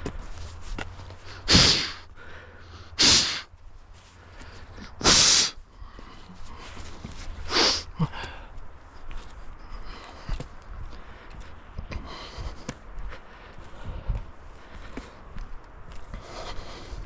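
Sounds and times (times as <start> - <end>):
heavy breathing: 1.0 - 17.0.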